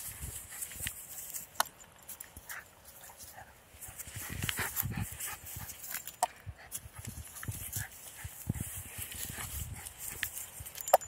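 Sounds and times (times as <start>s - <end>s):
dog scampering on grass: 0.0s - 10.8s.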